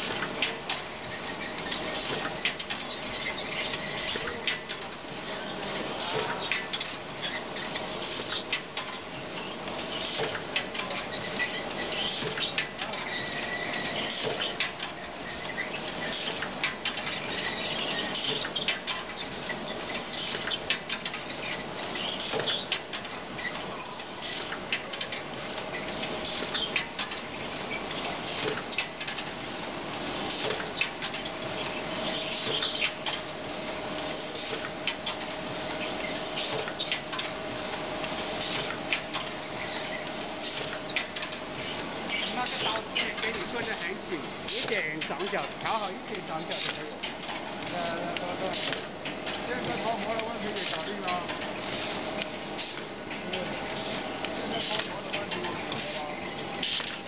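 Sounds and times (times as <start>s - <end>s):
machine clattering and rattling: 0.0s - 57.0s.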